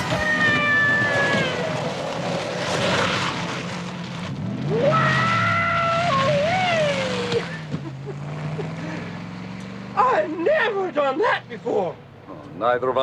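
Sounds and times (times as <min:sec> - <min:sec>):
tyre noise: 0:00.0 - 0:12.0
car engine running hard: 0:00.0 - 0:13.0.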